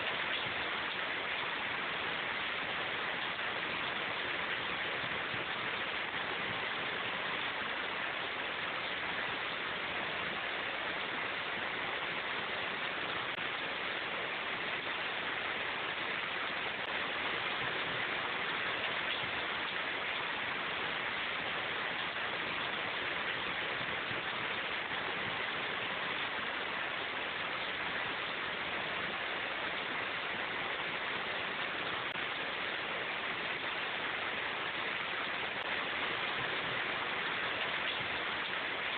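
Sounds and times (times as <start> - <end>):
rain falling in a forest: 0.0 - 38.9.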